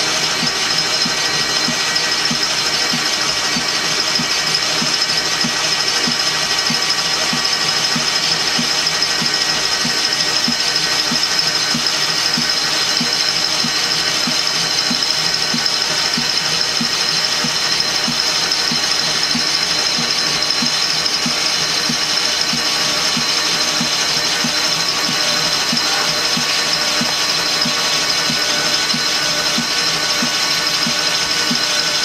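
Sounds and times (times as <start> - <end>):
metal lathe cutting metal tube: 0.0 - 32.0.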